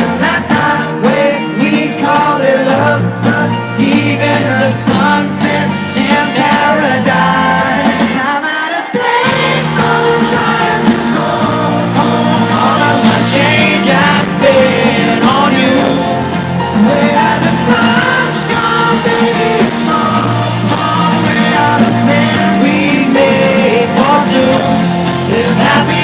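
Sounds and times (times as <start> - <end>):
lead singer vocals: 0.0 - 26.0
live pop-rock band: 0.0 - 26.0.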